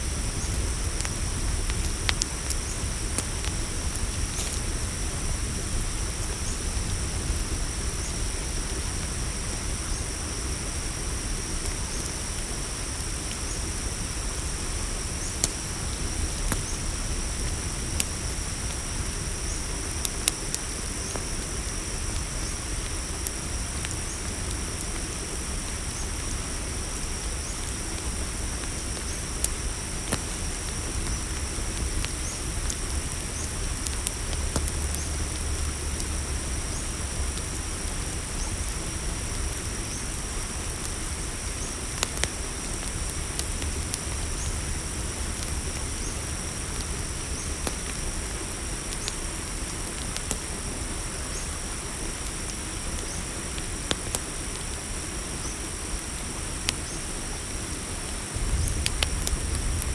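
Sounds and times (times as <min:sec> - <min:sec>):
low steady rumble: 0:00.0 - 0:53.9, 0:55.1 - 0:59.9
campfire crackling and popping: 0:00.0 - 0:59.9
crickets trilling: 0:00.0 - 0:59.9.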